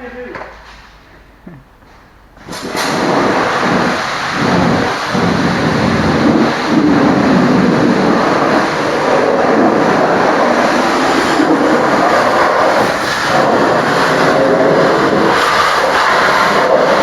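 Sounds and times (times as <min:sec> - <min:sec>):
high-pressure water spray on metal: 0:02.4 - 0:17.0.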